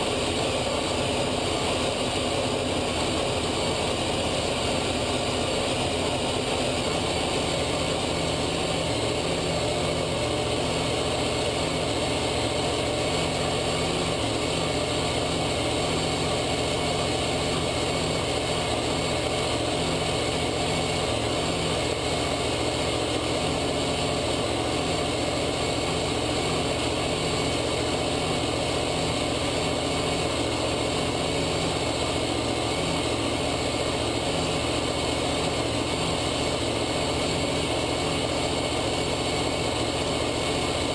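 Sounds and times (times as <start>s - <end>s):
vehicle engine: 0.0s - 40.9s.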